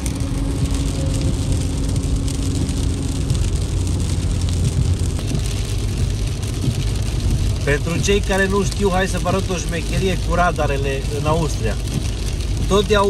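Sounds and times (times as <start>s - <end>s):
rain hissing on windscreen: 0.0s - 13.0s
tyres rumbling on wet road: 0.0s - 13.0s.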